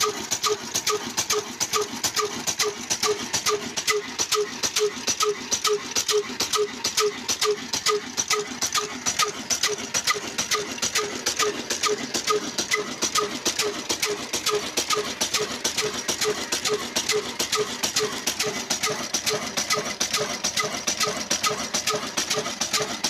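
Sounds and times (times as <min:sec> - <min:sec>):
stationary diesel engine knocking: 0:00.0 - 0:23.0.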